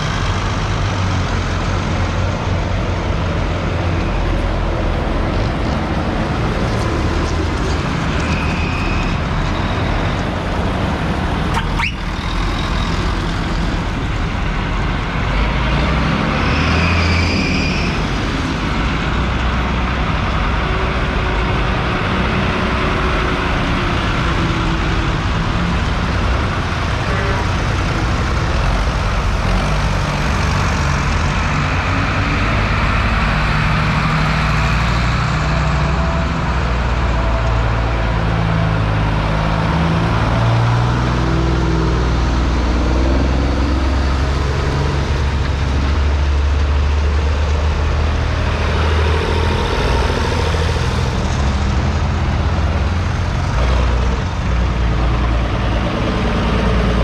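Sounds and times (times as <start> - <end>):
tractor diesel engines passing: 0.0 - 57.0.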